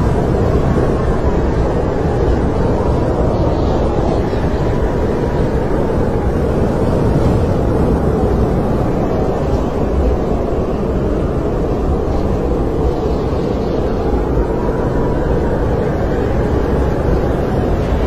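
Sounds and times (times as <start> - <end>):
faint wind whistle: 0.0 - 18.0
snowstorm wind blowing: 0.0 - 18.0.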